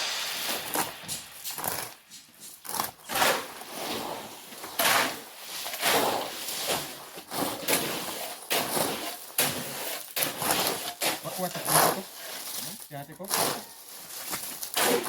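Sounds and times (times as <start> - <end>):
shovels scraping sand and gravel: 0.0 - 15.0.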